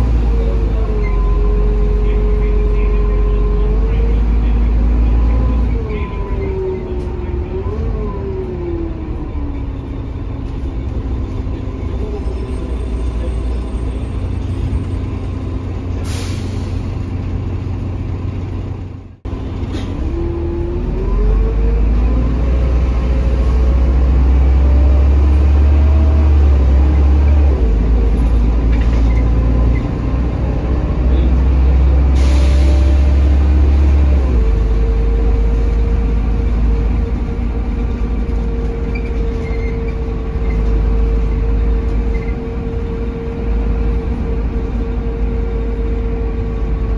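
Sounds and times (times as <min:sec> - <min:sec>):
bus engine and gearbox whine: 0:00.0 - 0:46.9.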